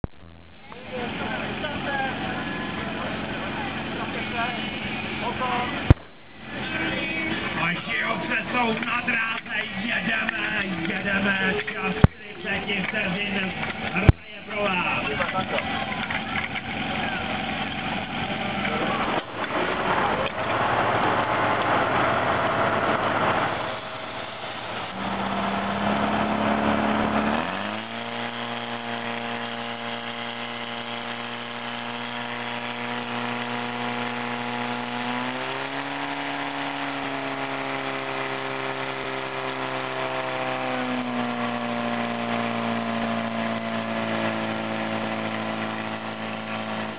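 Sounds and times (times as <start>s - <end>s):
pump engine droning: 0.0s - 46.9s.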